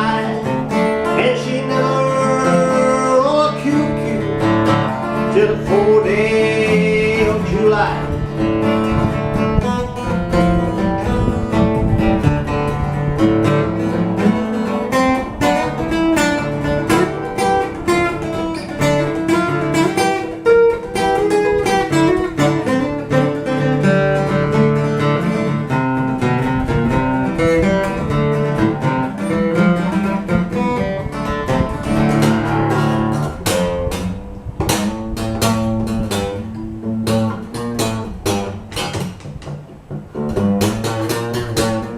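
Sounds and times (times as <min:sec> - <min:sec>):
plucked acoustic strings folk tune: 0:00.0 - 0:41.9.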